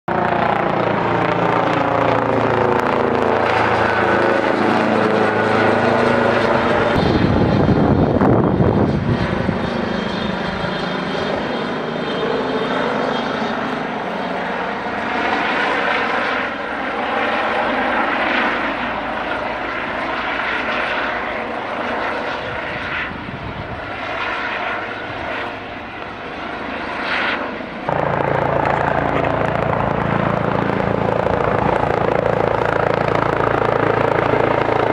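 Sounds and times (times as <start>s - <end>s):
helicopter rotor and turbine drone: 0.1s - 34.9s.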